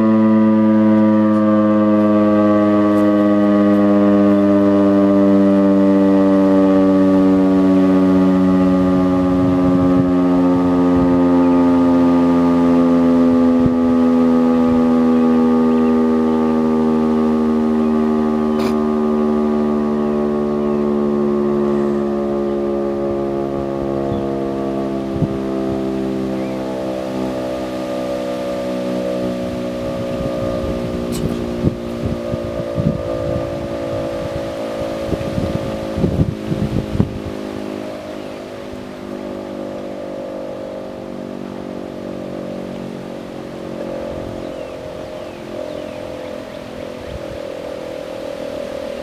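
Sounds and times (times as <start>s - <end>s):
warning siren steady tone: 0.0s - 49.0s.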